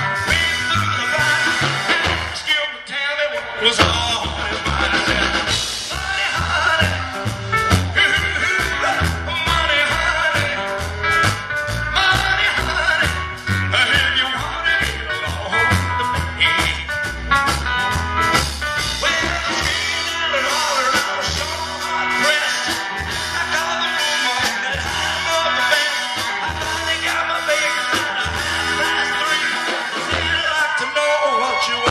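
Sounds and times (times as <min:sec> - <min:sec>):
bass guitar: 0:00.0 - 0:31.9
drums: 0:00.0 - 0:31.9
electric guitar: 0:00.0 - 0:31.9.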